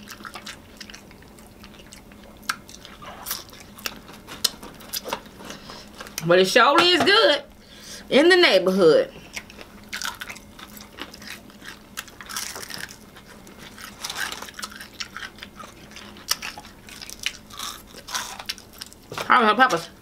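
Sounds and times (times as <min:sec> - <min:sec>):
crunching fried chicken: 0:00.0 - 0:06.2, 0:09.2 - 0:19.1
wet chewing: 0:00.0 - 0:06.2, 0:09.2 - 0:19.1.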